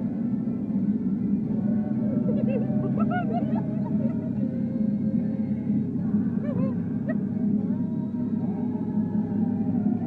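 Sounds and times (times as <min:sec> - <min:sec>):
car rumbling from inside cabin: 0:00.0 - 0:10.0.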